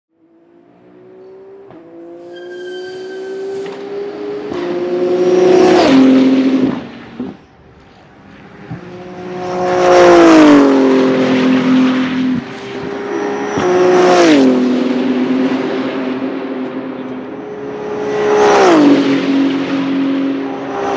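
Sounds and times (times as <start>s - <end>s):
race car passing at speed: 0.2s - 20.9s.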